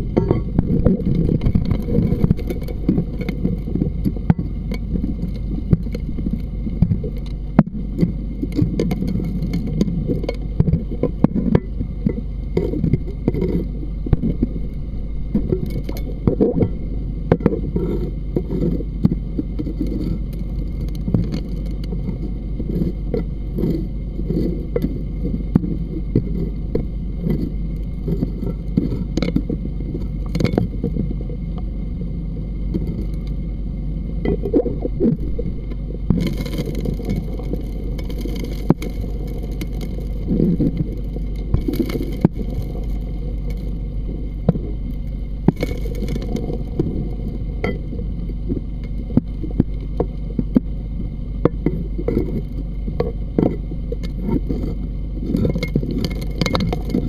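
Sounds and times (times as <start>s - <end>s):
suction dredge droning: 0.0s - 57.0s
gravel and stones clicking: 0.2s - 31.1s, 34.3s - 50.8s, 51.4s - 57.0s.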